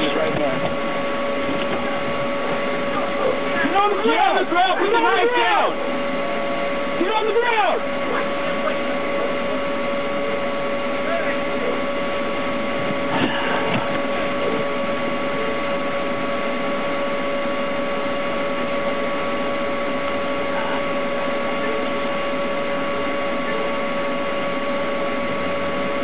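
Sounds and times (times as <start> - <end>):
two-tone electronic whine: 0.0 - 26.0.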